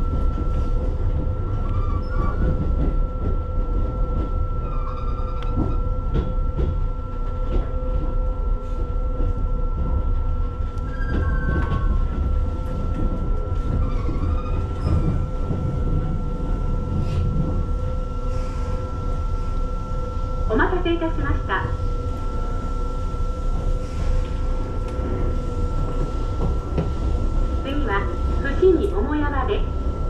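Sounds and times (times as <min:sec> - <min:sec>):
train rumble on rails: 0:00.0 - 0:30.0.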